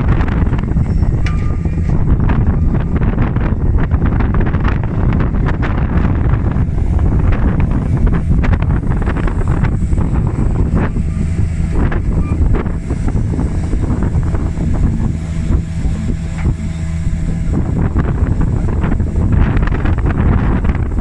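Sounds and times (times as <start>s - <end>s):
diesel engine running under load: 0.0s - 21.0s
wind buffeting microphone: 0.0s - 21.0s.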